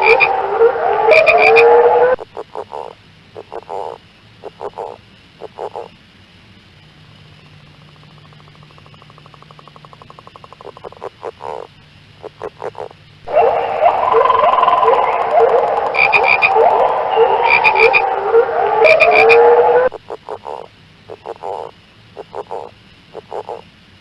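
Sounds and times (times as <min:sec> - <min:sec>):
frogs calling: 0:00.0 - 0:06.1, 0:06.8 - 0:23.7.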